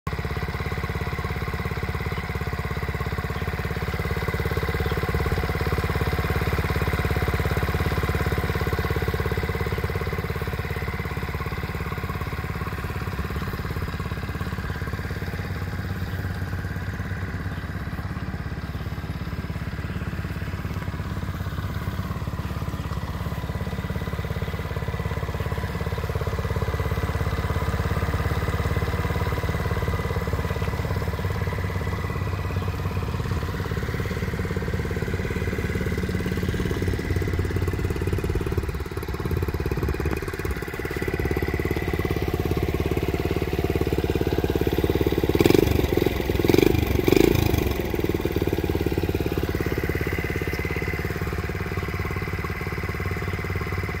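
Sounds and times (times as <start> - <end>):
motorcycle engine idling: 0.1 - 54.0.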